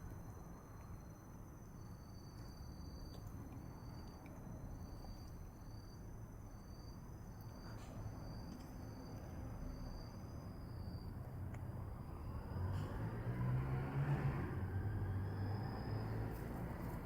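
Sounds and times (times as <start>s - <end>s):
steady high-pitched insect trill: 0.0s - 13.4s, 14.5s - 17.0s.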